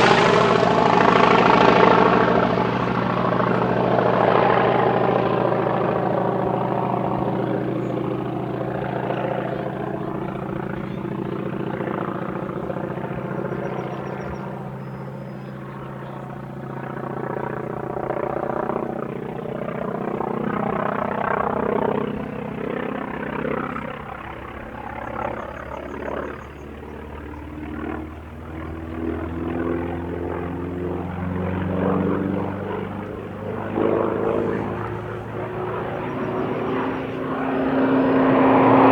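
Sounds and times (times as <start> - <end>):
radial aircraft engine and propeller: 0.0 - 38.9.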